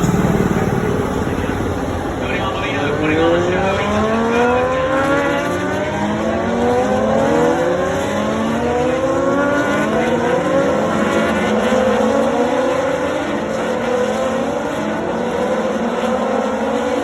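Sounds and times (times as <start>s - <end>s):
racing motorcycles accelerating past: 0.0s - 16.5s.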